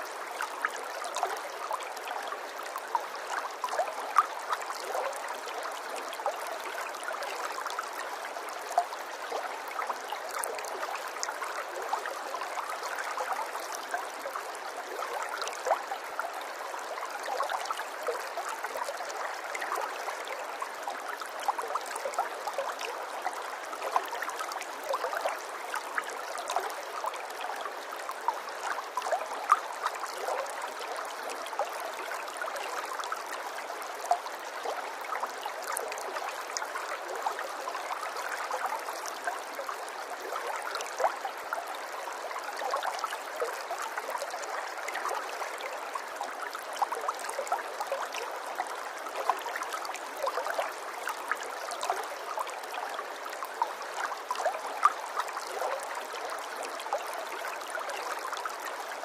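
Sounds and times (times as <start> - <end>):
stream trickling and gurgling: 0.0 - 59.0.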